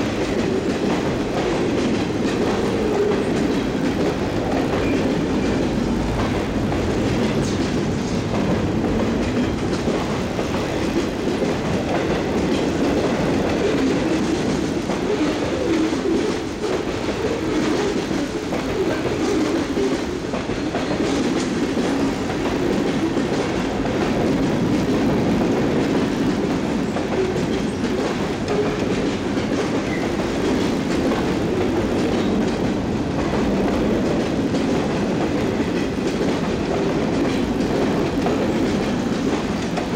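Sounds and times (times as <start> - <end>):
train wheels clacking on rails: 0.0 - 39.9.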